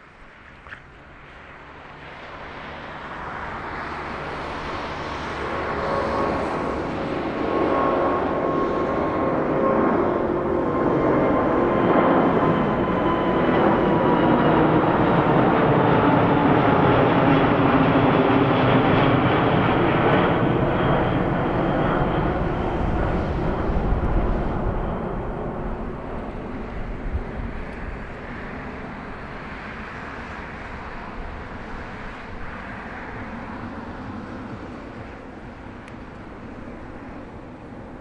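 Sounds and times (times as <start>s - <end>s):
jet airliner roaring overhead: 0.0s - 38.0s.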